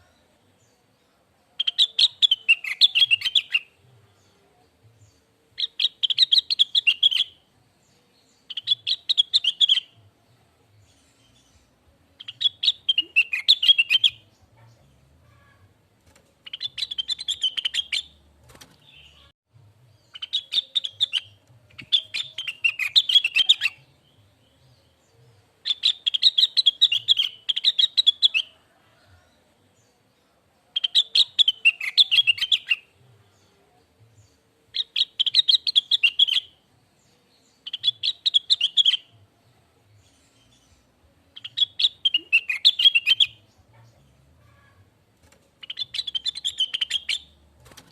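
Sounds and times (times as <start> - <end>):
bird twittering song: 0.0 - 10.0, 10.7 - 15.6, 16.4 - 19.3, 19.9 - 28.6, 30.8 - 44.8, 45.6 - 47.9.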